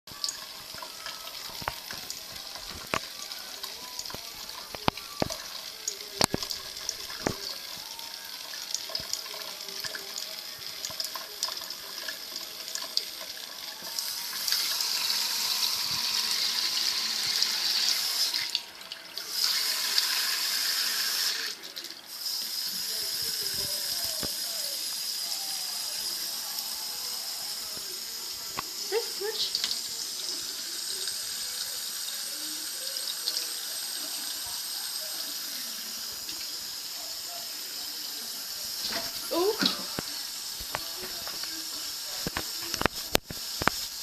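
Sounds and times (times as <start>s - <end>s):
tap water running into sink: 0.1s - 44.0s.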